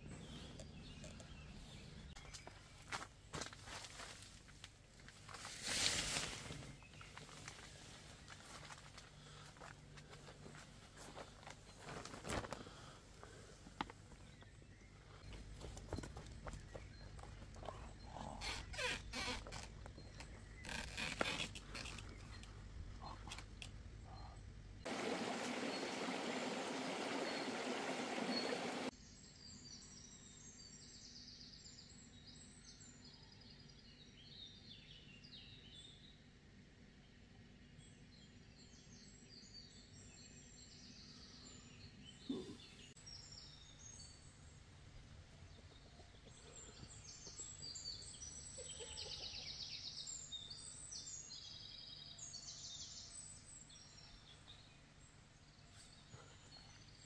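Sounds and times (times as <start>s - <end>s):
small birds chirping: 0.0s - 36.2s, 37.8s - 57.0s.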